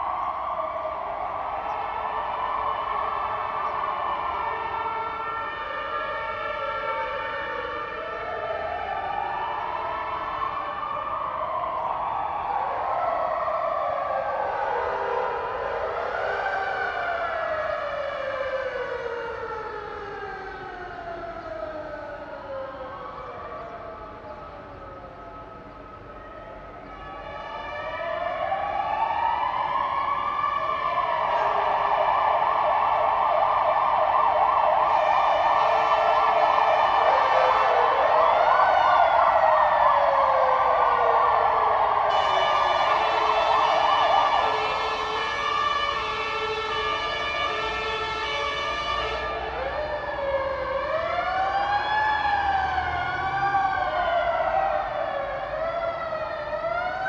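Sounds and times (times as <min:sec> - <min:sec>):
fire engine sirens wailing: 0:00.0 - 0:57.0
siren yelp: 0:00.0 - 0:57.0.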